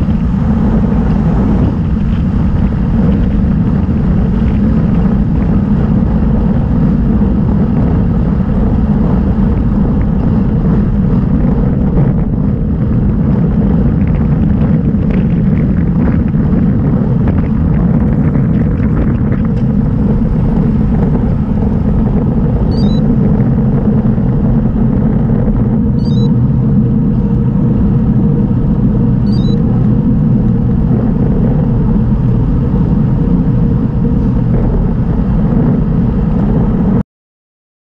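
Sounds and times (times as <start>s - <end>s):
tyre noise on asphalt: 0.0s - 37.0s
wind buffeting microphone: 0.0s - 37.0s.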